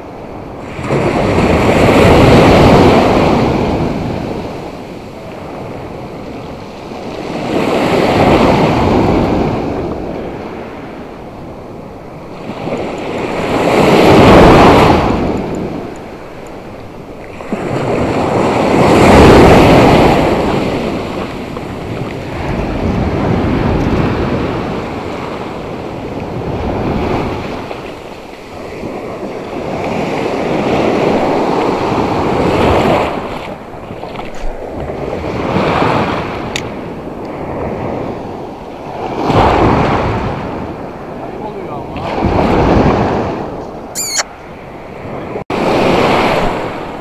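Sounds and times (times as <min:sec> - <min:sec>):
sea surf breaking: 0:00.0 - 0:47.0.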